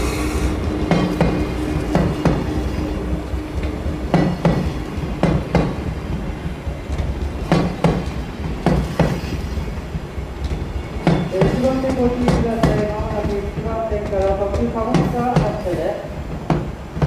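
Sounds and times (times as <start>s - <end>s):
steady low rumble: 0.0s - 17.0s
wheels clacking over rail joints: 0.0s - 17.0s.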